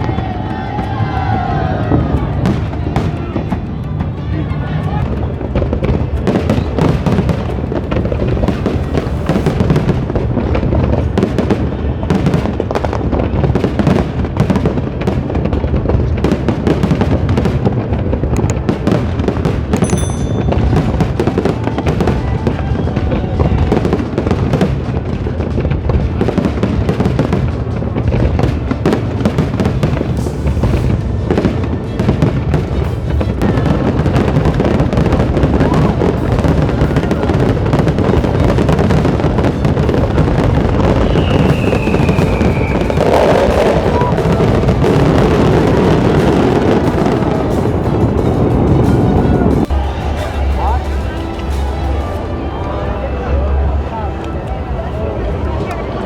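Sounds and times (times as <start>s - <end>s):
fireworks bangs: 0.0s - 53.9s
music: 0.0s - 56.0s.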